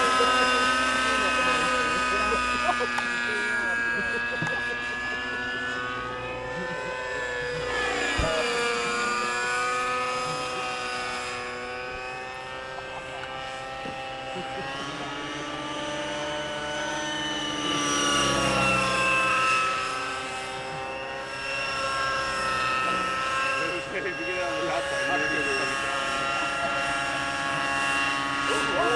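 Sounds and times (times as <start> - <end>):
helicopter rotors whining: 0.0 - 28.9
model helicopter engines buzzing: 0.0 - 28.9.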